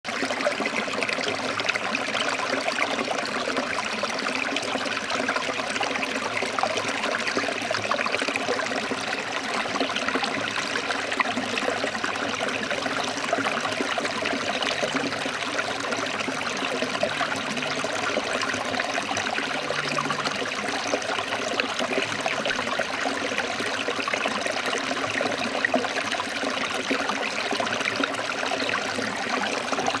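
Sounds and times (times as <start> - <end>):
running water trickling: 0.1 - 30.0.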